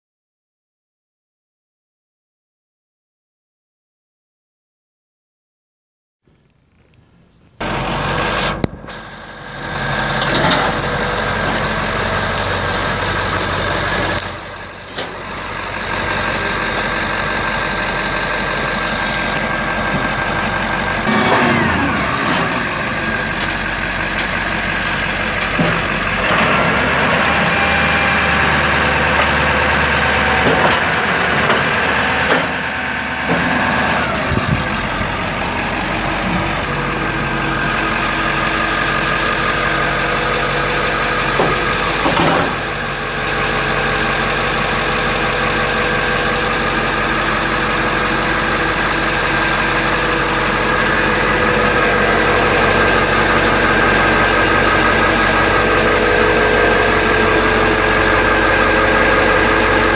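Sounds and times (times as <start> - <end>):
diesel engine idling: 7.6 - 59.9.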